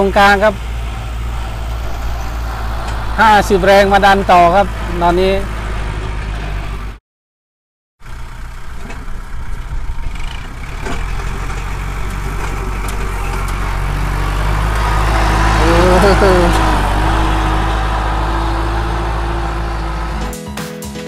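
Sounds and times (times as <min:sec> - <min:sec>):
diesel tractor running under load: 0:00.0 - 0:07.0, 0:08.0 - 0:20.4.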